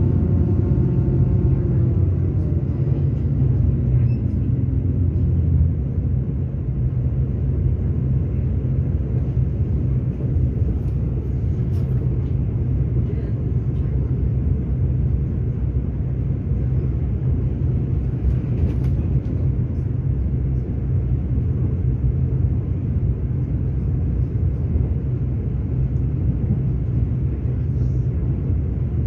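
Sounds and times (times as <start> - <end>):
train rumbling from inside: 0.0 - 29.0.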